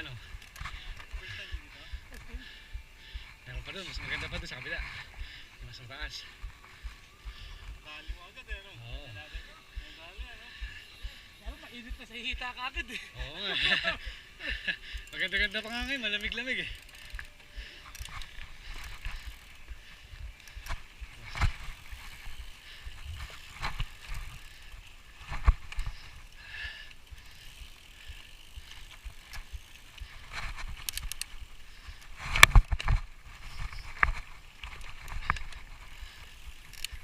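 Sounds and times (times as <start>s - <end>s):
mountain bike rolling and rattling: 0.0s - 2.6s, 3.3s - 37.0s.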